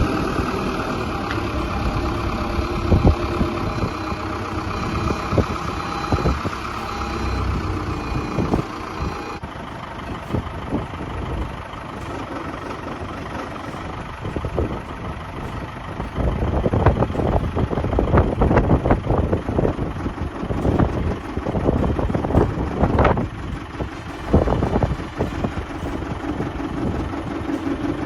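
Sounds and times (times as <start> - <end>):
diesel engine running: 0.0 - 28.0
steady whine: 0.0 - 28.0
wind buffeting microphone: 0.0 - 28.0.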